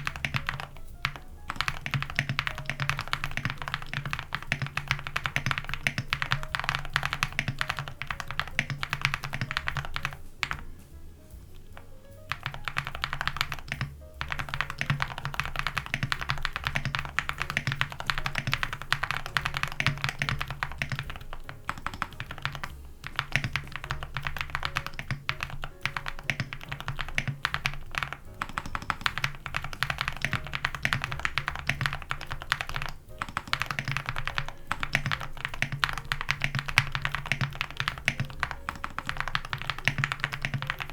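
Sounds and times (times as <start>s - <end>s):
typing on mechanical keyboard: 0.0s - 10.7s, 11.5s - 40.9s
background music: 0.0s - 40.9s.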